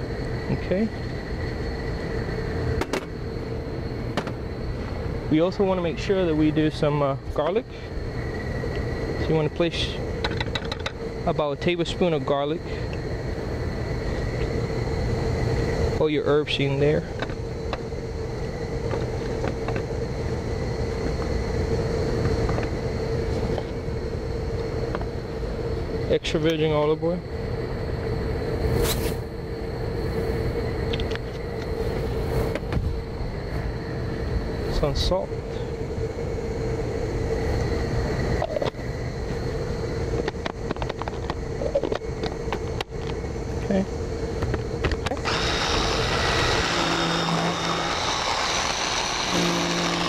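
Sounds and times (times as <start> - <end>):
steady machine hum: 0.0 - 50.0.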